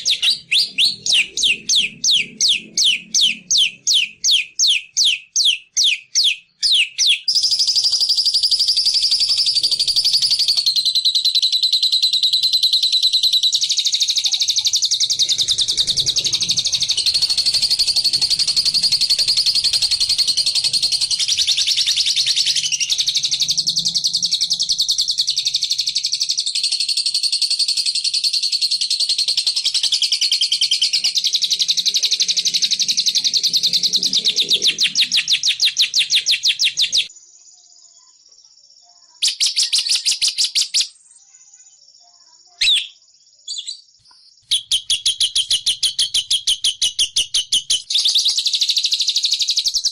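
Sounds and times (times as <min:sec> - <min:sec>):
high-pitched bird trill: 0:00.0 - 0:37.1, 0:39.0 - 0:41.8, 0:42.5 - 0:49.9
recorded bird song: 0:00.0 - 0:49.9.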